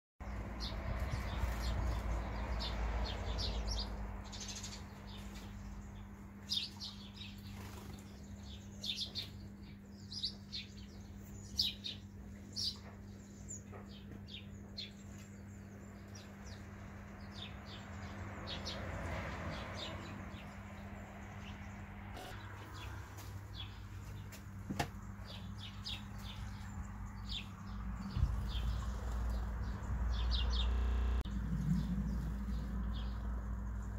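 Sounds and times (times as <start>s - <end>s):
sparrows chirping: 0.2s - 33.9s.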